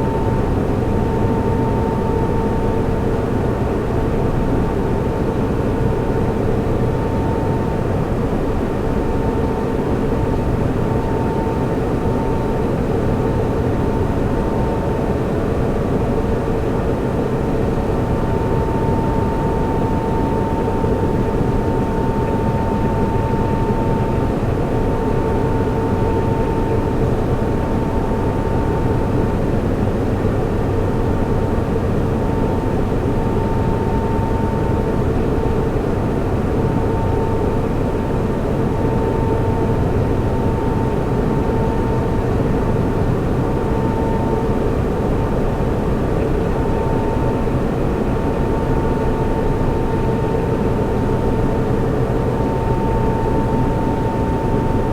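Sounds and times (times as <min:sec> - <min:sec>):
faint high whine: 0:00.0 - 0:54.9
server cooling fans whirring: 0:00.0 - 0:54.9.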